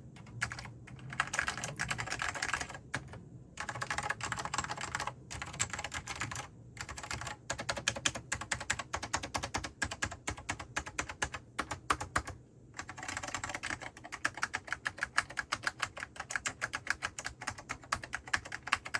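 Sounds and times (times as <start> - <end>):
fast typing keystroke clicks: 0.2 - 18.9.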